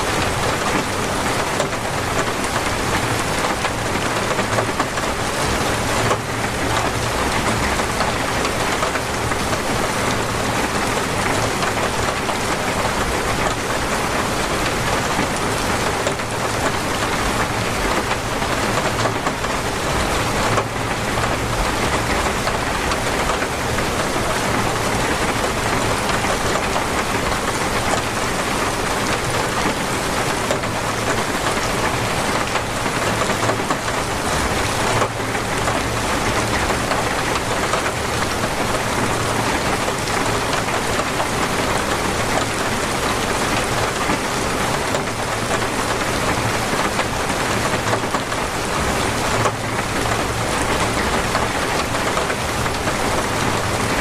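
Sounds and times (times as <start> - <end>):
torrential rain hissing: 0.0 - 54.0.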